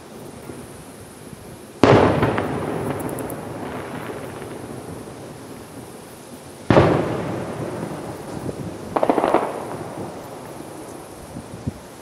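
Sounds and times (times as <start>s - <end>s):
distant fireworks boom echoing: 0.0s - 12.0s
faint fireworks crackles: 0.0s - 12.0s.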